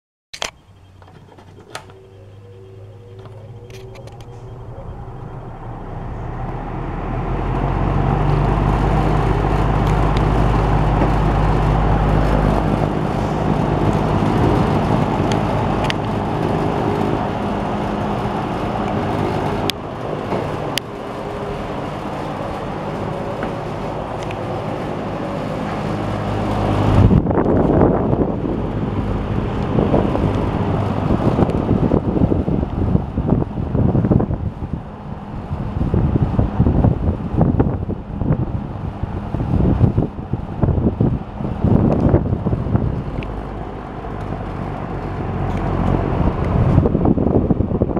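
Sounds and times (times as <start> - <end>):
fan motor humming: 0.5 - 47.9
wind buffeting microphone: 1.2 - 47.9
rush of air: 4.3 - 47.9.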